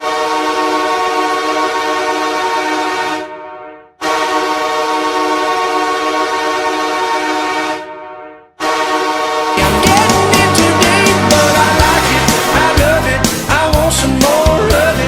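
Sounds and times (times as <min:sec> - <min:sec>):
goal horn blasts: 0:00.0 - 0:13.0.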